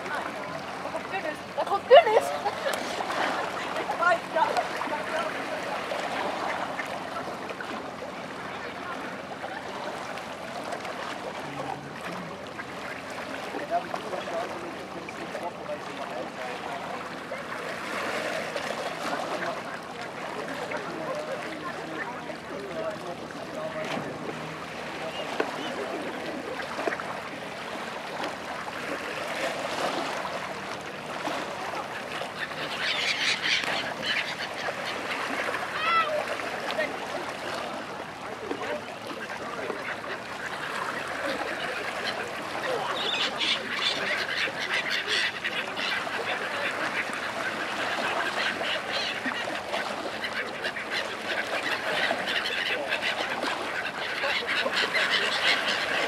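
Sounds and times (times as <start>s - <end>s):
small waves lapping on shore: 0.0s - 56.0s
gulls and ducks calling: 0.1s - 13.5s, 15.2s - 56.0s.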